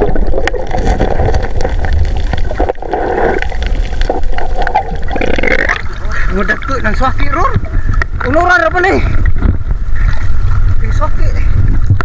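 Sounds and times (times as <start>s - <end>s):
water sloshing and gurgling underwater: 0.0s - 12.0s.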